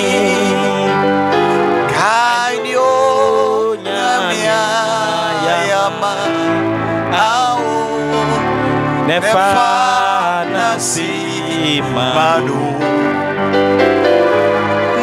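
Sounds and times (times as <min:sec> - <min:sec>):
man singing gospel song: 0:00.0 - 0:13.3
electronic keyboard: 0:00.0 - 0:15.0.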